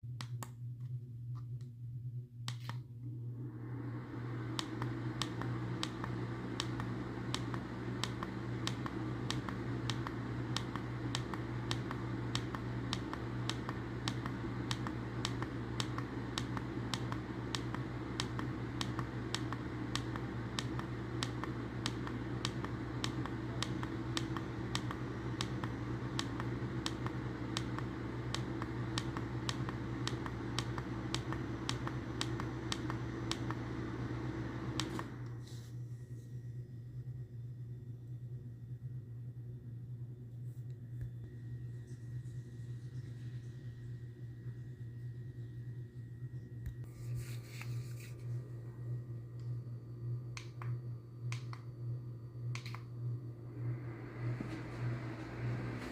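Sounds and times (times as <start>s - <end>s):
electric hum: 0.1s - 55.9s
appliance running: 2.5s - 55.9s.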